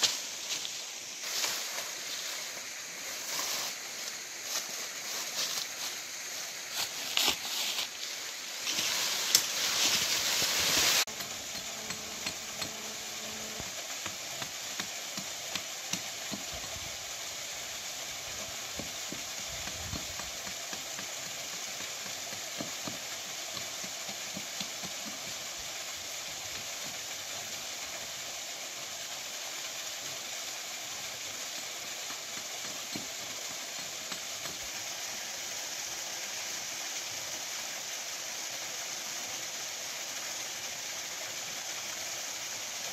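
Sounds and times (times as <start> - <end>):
waterfall and stream rushing: 0.0 - 42.9.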